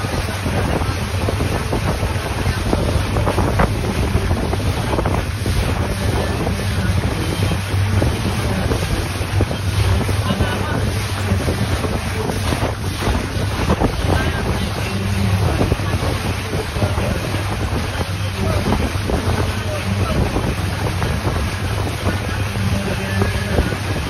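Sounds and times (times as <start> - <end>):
boat engine drone: 0.0 - 24.0
water rushing past hull: 0.0 - 24.0
wind buffeting microphone: 0.0 - 24.0.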